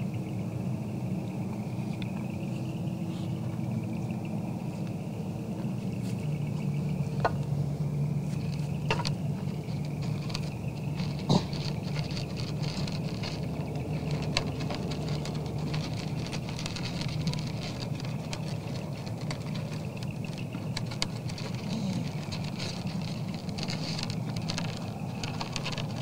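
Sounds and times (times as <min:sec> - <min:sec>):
steady low hum: 0:00.0 - 0:26.0
deer crunching feed: 0:01.4 - 0:26.0.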